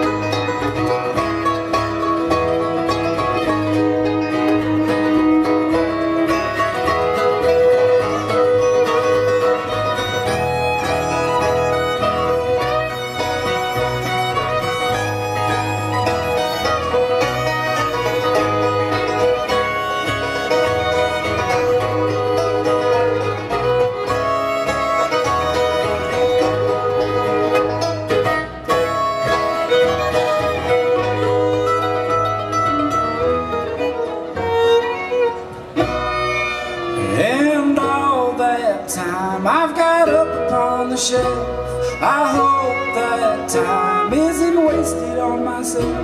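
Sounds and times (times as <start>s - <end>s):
banjo: 0.0s - 46.0s
fiddle lead: 0.0s - 46.0s
guitar: 0.0s - 46.0s.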